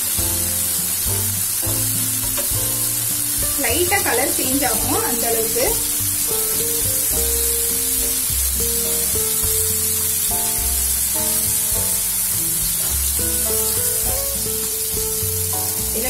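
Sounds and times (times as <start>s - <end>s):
background music of held notes: 0.0s - 16.0s
chicken sizzling in oil: 0.0s - 16.0s.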